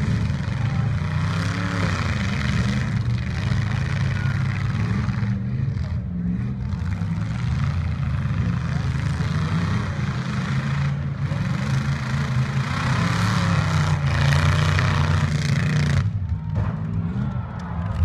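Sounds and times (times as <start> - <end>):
truck engines revving: 0.0 - 18.0.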